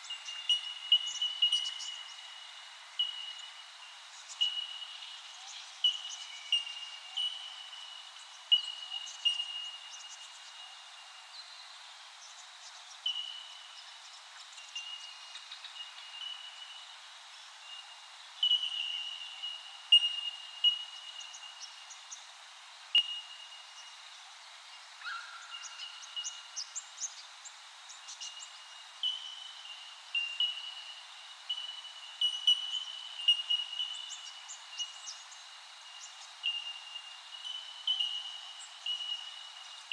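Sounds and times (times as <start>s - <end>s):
faint outdoor background: 0.0s - 39.9s.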